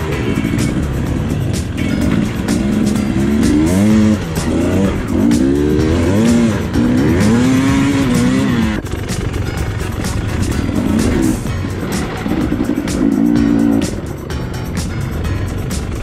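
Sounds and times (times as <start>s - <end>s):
background music: 0.0s - 16.0s
dirt bike engine revving: 0.0s - 16.0s.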